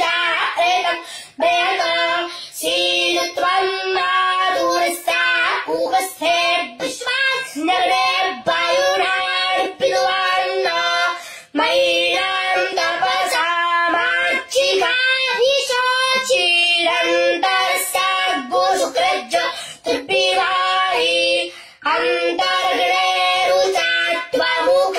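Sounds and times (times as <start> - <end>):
boy chanting: 0.0 - 24.9.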